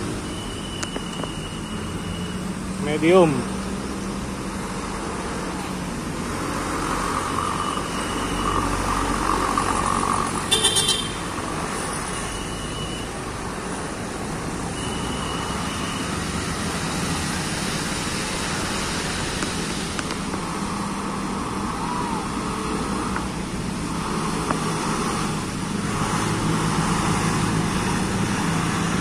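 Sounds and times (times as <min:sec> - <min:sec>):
traffic engines passing: 0:00.0 - 0:29.0.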